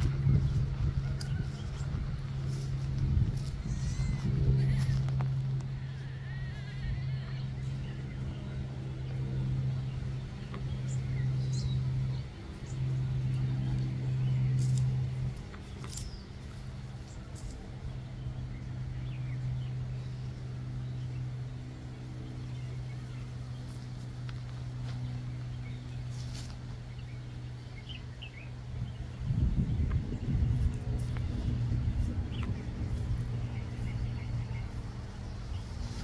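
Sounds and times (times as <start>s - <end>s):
low motor hum: 0.0s - 36.0s.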